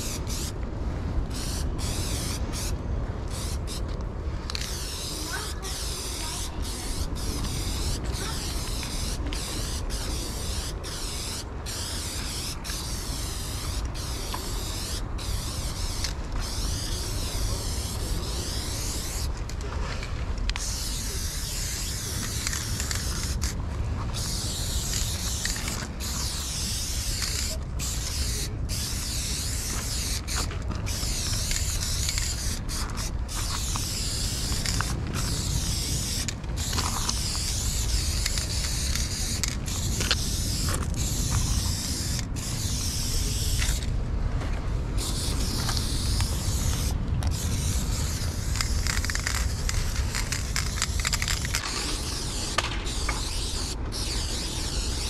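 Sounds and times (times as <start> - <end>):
spray paint can hissing: 0.0 - 0.6, 1.2 - 19.6, 20.5 - 43.9, 45.0 - 55.0.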